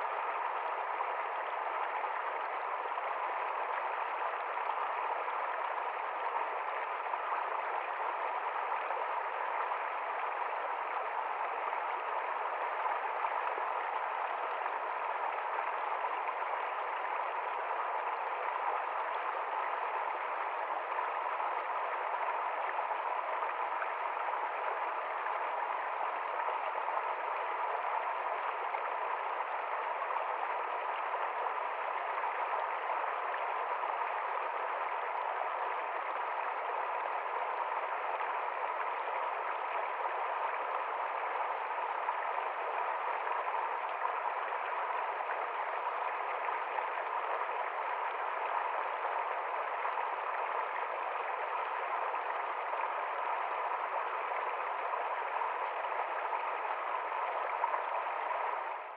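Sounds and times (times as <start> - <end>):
stream rushing over stones: 0.0 - 58.9.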